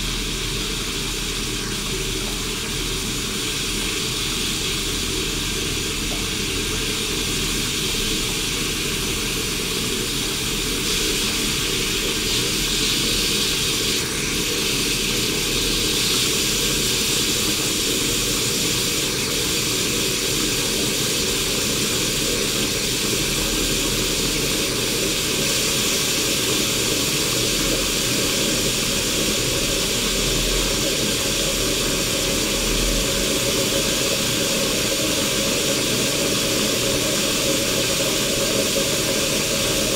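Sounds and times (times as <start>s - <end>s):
coffee machine brewing: 0.0s - 39.9s
steam hissing: 0.0s - 39.9s.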